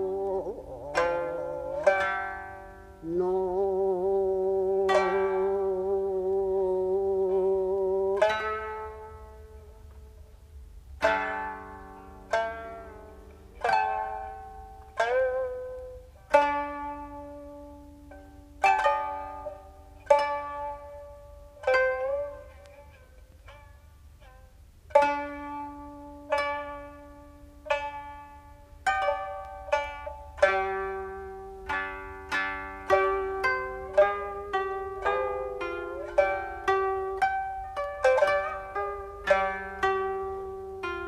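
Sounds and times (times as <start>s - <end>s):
plucked string notes: 0.0s - 41.0s.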